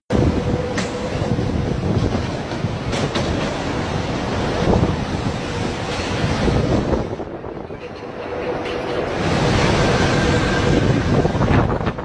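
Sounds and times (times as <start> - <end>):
strong wind on microphone: 0.1 - 12.0.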